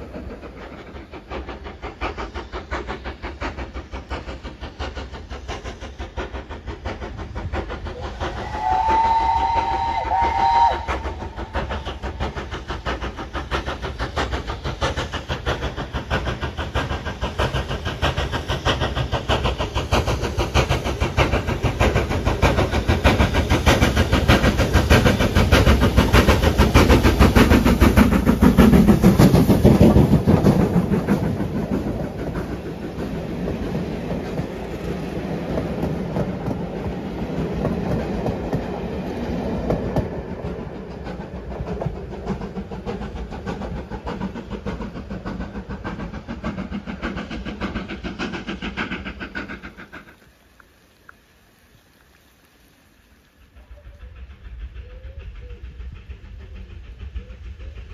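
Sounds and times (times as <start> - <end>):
train wheels clacking over rail joints: 0.0 - 51.2
steam locomotive chuffing: 0.0 - 57.9.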